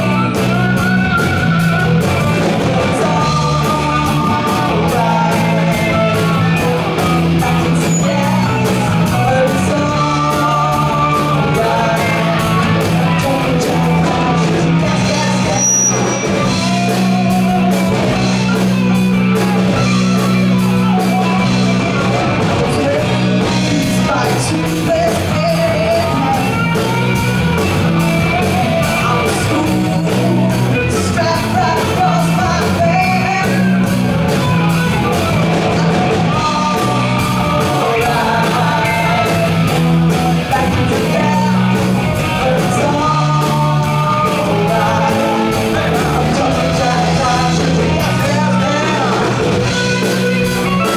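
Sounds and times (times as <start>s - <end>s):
person singing: 0.0s - 34.4s, 35.0s - 50.9s
bass guitar: 0.0s - 50.9s
drum kit beat: 0.0s - 50.9s
electric guitars: 0.0s - 50.9s.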